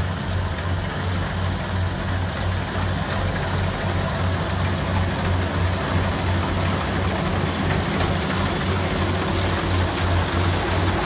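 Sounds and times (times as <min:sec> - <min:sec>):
cutting and threshing machinery: 0:00.0 - 0:11.0
diesel engine droning: 0:00.0 - 0:11.0.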